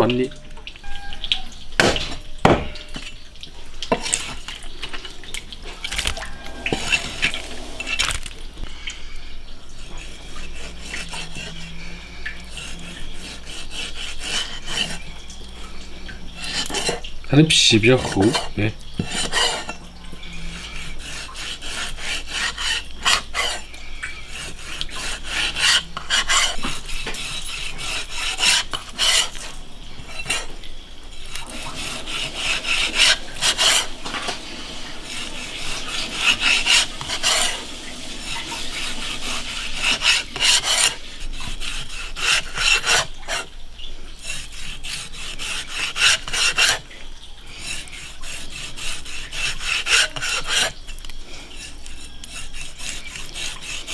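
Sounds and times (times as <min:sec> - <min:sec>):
cleaver scraping fish skin: 0:05.8 - 0:08.5, 0:09.8 - 0:15.3, 0:16.3 - 0:19.8, 0:20.5 - 0:43.5, 0:44.1 - 0:46.9, 0:47.5 - 0:53.9.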